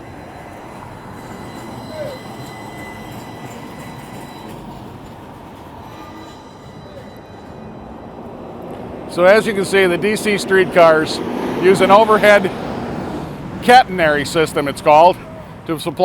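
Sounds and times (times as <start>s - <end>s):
streetcar rumbling on rails: 0.0s - 16.0s.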